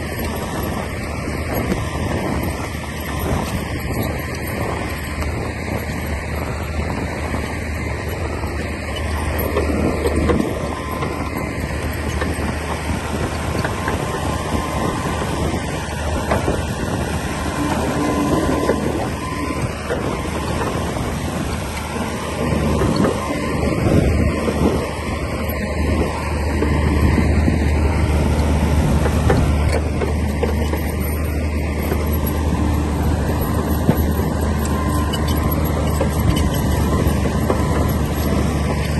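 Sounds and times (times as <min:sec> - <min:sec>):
bulldozer diesel engine running: 0:00.0 - 0:38.9
metallic clanks and squeaks: 0:00.0 - 0:38.9.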